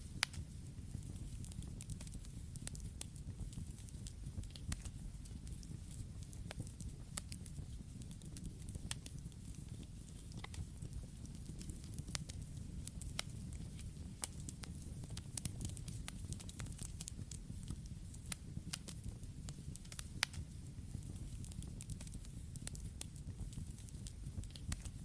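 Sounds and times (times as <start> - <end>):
campfire popping and snapping: 0.0 - 25.0
low rumble of flames: 0.0 - 25.0.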